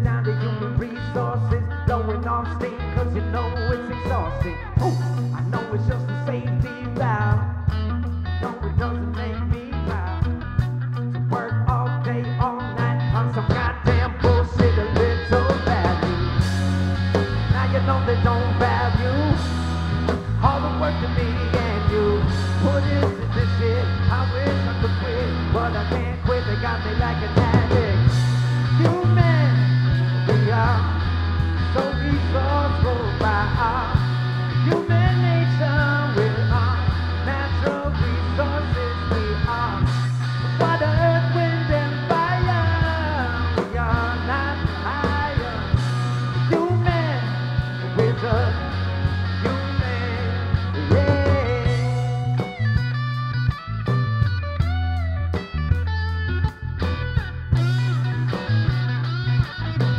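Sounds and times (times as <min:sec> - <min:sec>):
bass line: 0:00.0 - 0:59.9
bending lead guitar melody: 0:00.0 - 0:59.9
drum kit: 0:00.0 - 0:59.9
electric guitars: 0:00.0 - 0:59.9.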